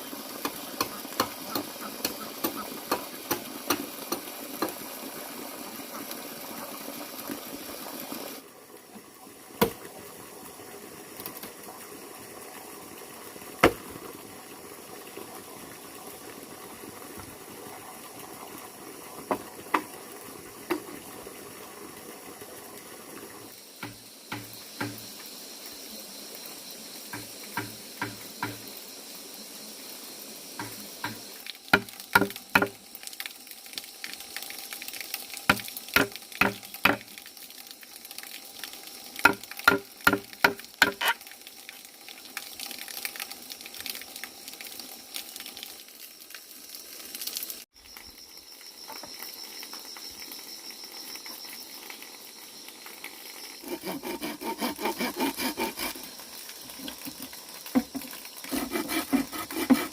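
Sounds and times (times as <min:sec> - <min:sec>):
running water rushing: 0:00.0 - 0:47.7, 0:49.0 - 0:59.9.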